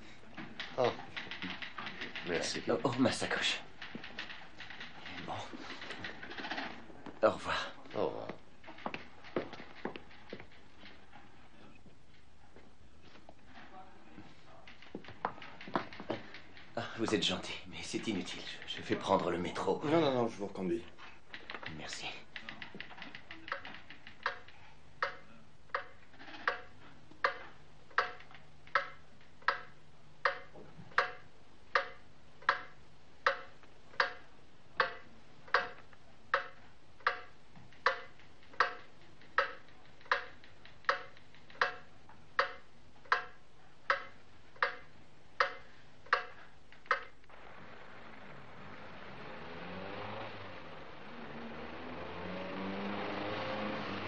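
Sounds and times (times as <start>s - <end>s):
clock ticking: 0.0s - 11.0s, 14.3s - 47.3s
faint low hum: 0.0s - 54.0s.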